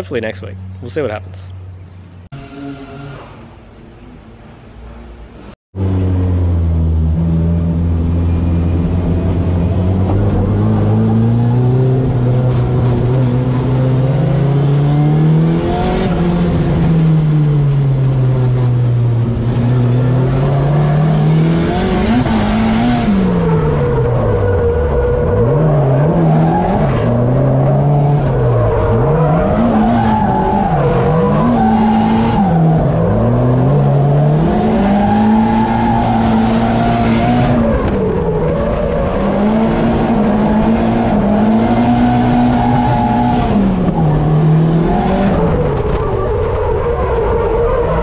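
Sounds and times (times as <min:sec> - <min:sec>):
car engine revving: 0:05.8 - 0:48.0.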